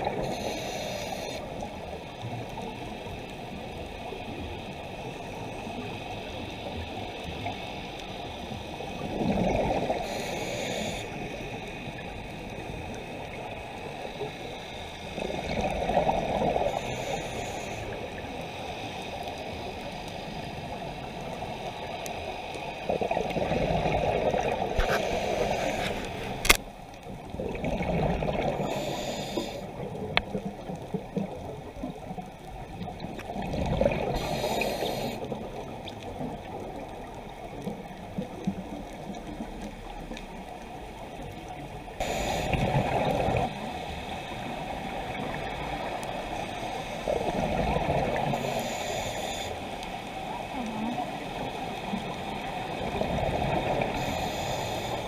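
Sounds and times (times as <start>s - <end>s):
steady low hiss: 0.0s - 27.4s, 34.0s - 55.0s.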